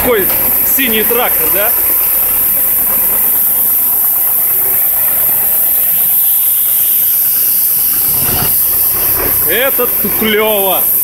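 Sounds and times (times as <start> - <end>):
tractor diesel engine running: 0.0 - 10.8.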